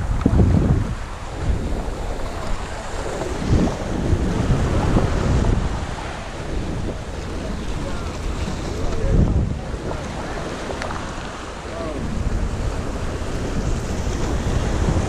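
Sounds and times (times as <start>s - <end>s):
small waves washing against rocks: 0.0s - 15.0s
wind buffeting microphone: 0.0s - 15.0s.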